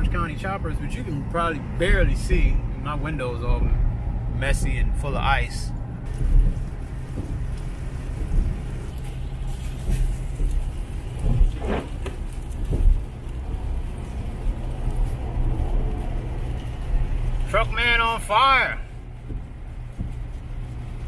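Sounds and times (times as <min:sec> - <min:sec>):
car cabin engine and road rumble: 0:00.0 - 0:21.0.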